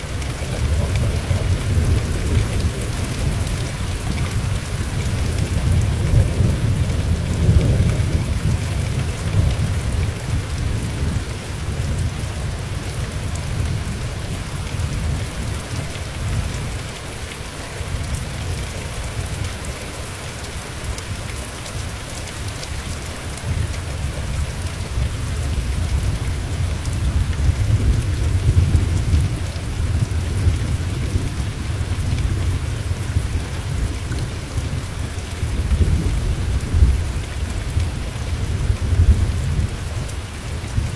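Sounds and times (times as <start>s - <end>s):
rolling thunder: 0.0s - 16.5s, 23.5s - 40.9s
rain hissing: 0.0s - 40.9s.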